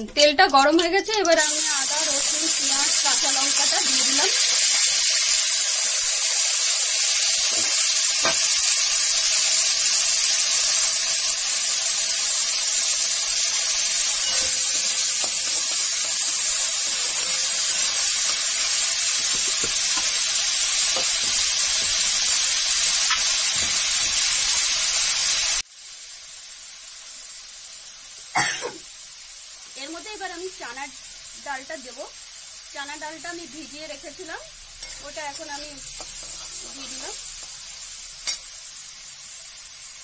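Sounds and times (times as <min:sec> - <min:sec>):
vegetables sizzling in hot oil: 0:00.0 - 0:40.0.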